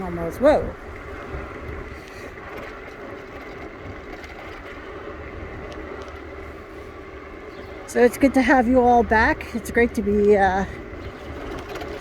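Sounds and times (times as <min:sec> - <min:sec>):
wheels rumbling on pavement: 0:00.0 - 0:12.0
faint motor whine: 0:00.2 - 0:12.0.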